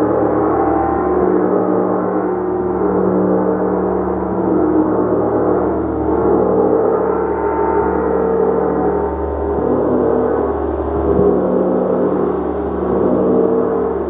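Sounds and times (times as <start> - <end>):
gong shimmering: 0.0 - 14.0.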